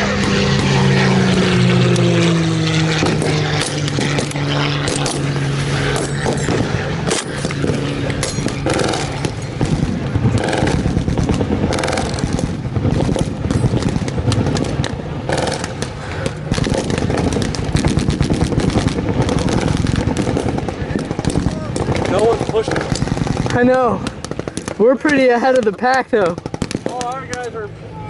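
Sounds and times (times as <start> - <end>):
propeller engine drone: 0.0 - 28.0.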